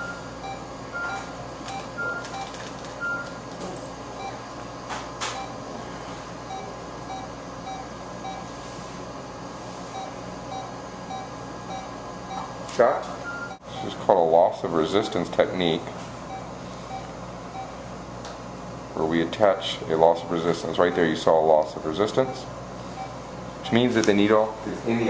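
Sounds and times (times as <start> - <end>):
equipment hum: 0.0 - 25.0.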